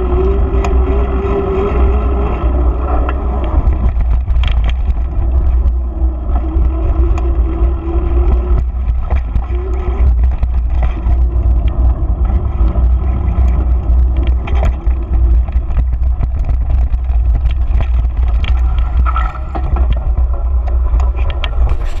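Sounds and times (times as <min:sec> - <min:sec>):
bike rattles and knocks: 0:00.0 - 0:22.0
bike tyre rumble: 0:00.0 - 0:22.0
wind buffeting microphone: 0:00.0 - 0:22.0.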